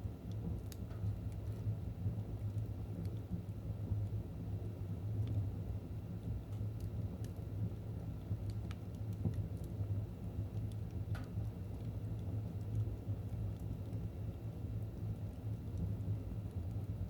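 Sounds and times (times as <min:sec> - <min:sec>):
fireplace fire crackling: 0:00.0 - 0:17.0.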